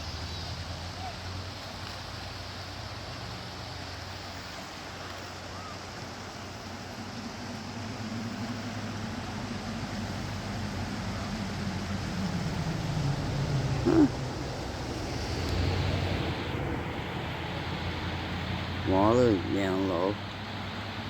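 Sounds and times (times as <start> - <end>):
engine drone: 0.0 - 21.0
vehicle road noise: 0.0 - 21.0.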